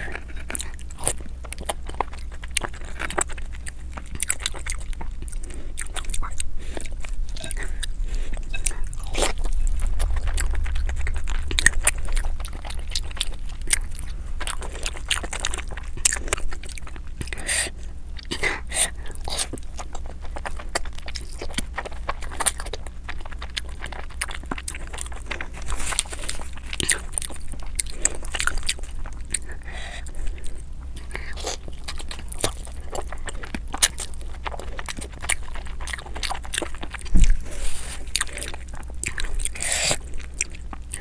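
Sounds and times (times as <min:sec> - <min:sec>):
chewing crisp tortillas: 0:00.0 - 0:41.0
low steady hum: 0:00.0 - 0:41.0.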